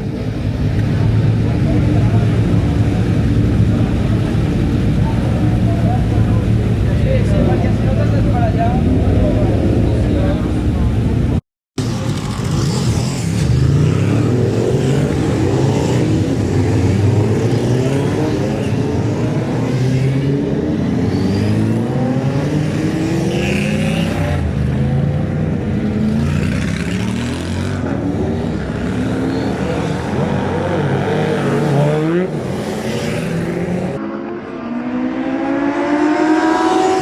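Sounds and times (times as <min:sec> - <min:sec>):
motorcycle engines accelerating: 0:00.0 - 0:37.0.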